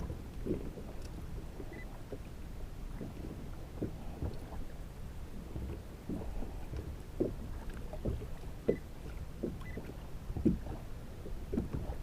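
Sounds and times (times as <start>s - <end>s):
water lapping against hull: 0.0s - 12.0s.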